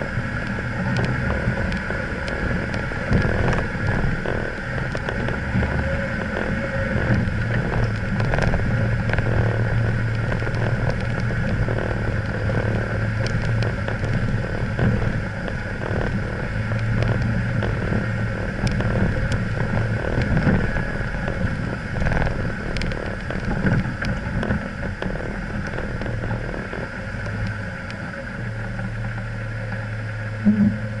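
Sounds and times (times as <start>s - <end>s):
car engine at low speed: 0.0s - 31.0s
clicks and knocks from stone track: 0.4s - 18.0s, 18.6s - 28.0s.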